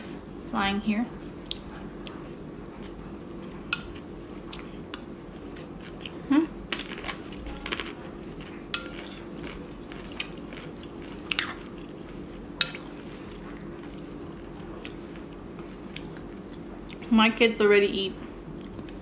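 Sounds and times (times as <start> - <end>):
steady low hum: 0.0 - 19.0
crunchy chewing: 1.2 - 17.1.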